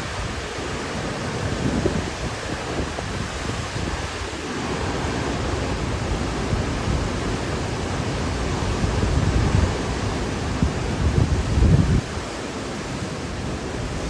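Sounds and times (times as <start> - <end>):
strong wind rushing: 0.0 - 14.0
wind buffeting microphone: 0.0 - 14.0.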